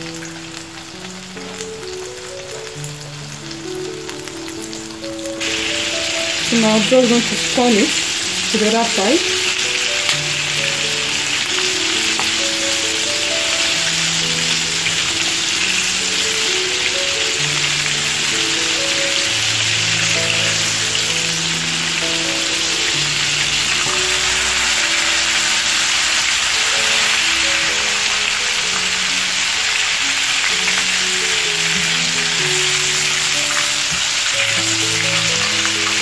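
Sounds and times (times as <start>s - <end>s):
chicken deep-frying in oil: 0.0s - 36.0s
soft background music: 0.0s - 36.0s.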